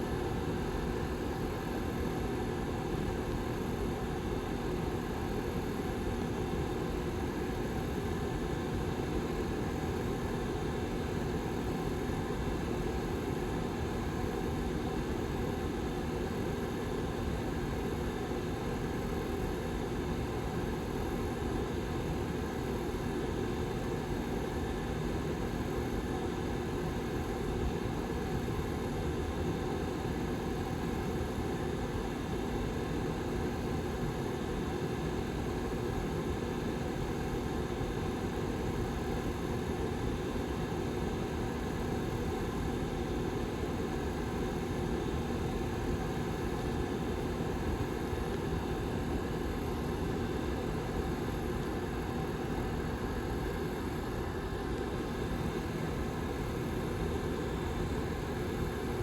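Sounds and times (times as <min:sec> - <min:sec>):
heater fan blowing air: 0:00.0 - 0:59.0.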